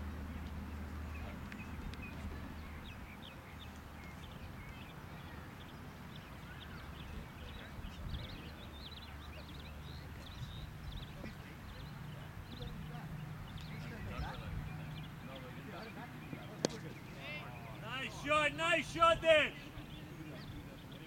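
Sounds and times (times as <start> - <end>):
birds chirping: 0.3 - 21.0.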